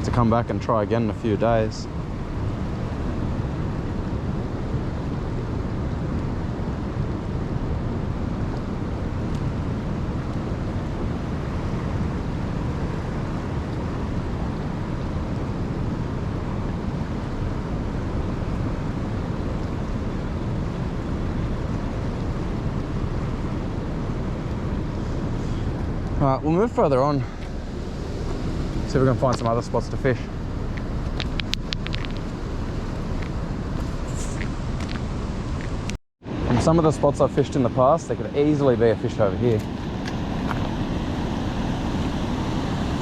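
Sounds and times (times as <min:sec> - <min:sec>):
river rushing: 0:01.2 - 0:43.0.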